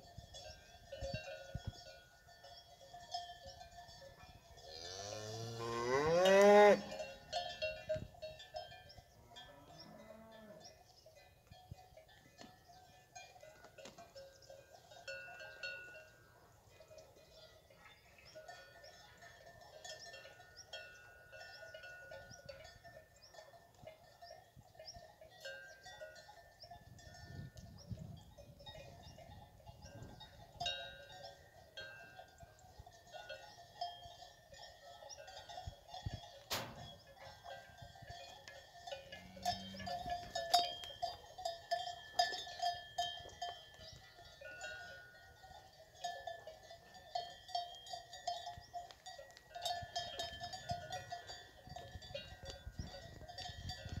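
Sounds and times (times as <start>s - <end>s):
cow bells clanking: 0.0s - 54.0s.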